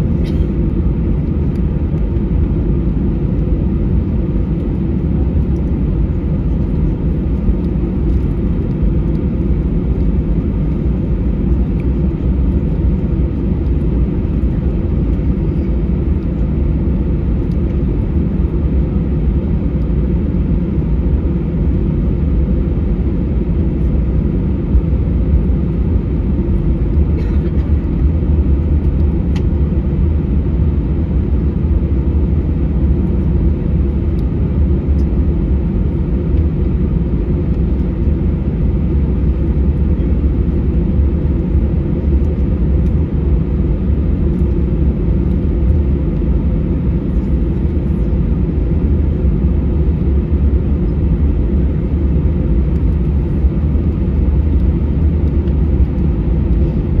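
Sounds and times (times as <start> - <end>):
airplane cabin low rumble: 0.0 - 57.0.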